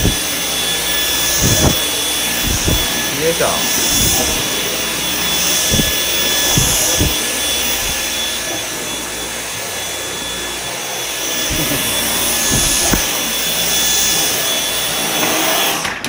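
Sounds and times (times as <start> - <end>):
high motor whine: 0.0 - 15.9
vacuum cleaner running: 0.0 - 16.0.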